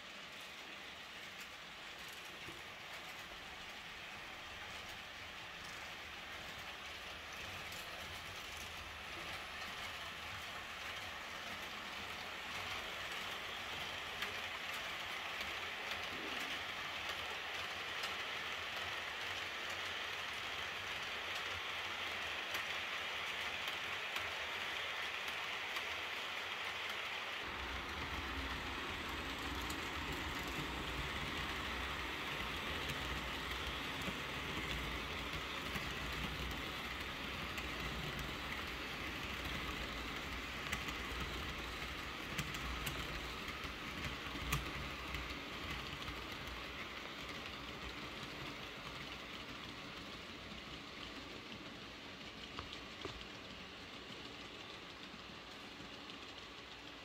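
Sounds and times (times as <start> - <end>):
model train humming past: 0.0 - 57.0
model train wheels hissing: 0.0 - 57.0.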